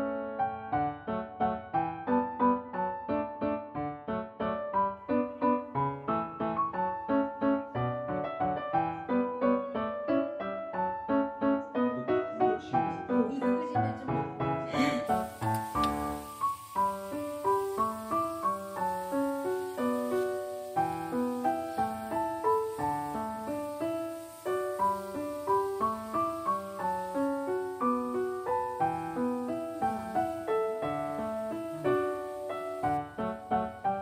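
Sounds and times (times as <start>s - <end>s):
gentle piano melody: 0.0s - 34.0s.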